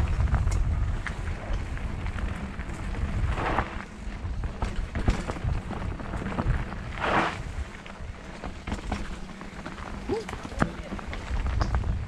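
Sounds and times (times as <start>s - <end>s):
bike rattling over bumps: 0.0s - 12.0s
wind buffeting microphone: 0.0s - 12.0s.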